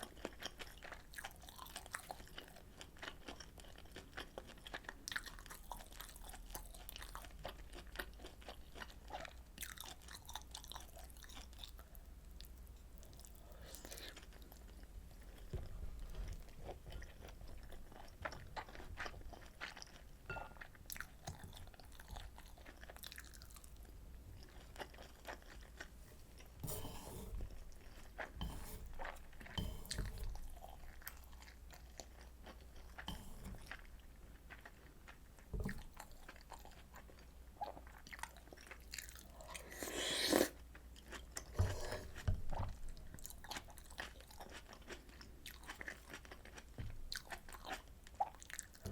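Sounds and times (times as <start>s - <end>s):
close chewing with mouth clicks: 0.0s - 26.6s, 27.4s - 48.9s.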